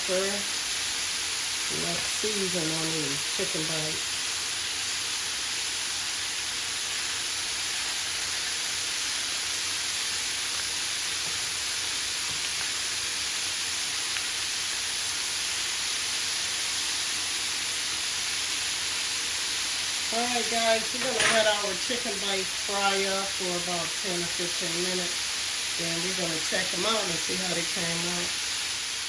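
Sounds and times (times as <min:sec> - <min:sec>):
chicken deep-frying sizzle: 0:00.0 - 0:29.0.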